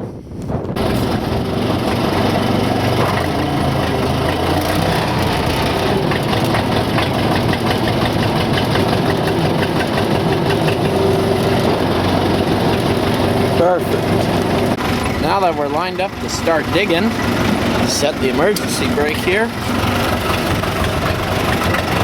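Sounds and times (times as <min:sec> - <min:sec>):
diesel engine clattering: 0:00.7 - 0:22.0.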